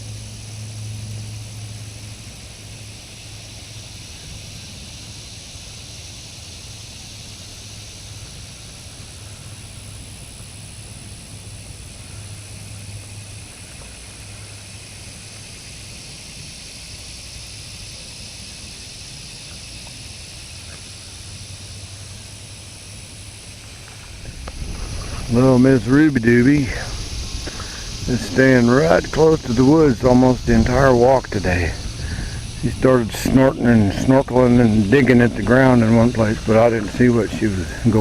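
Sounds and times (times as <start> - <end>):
high hiss: 0.0 - 38.0
low hum: 0.0 - 38.0.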